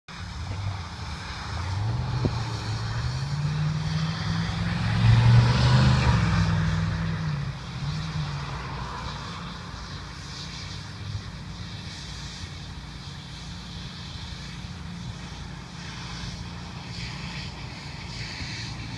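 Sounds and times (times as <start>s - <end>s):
engine running: 0.1s - 18.9s.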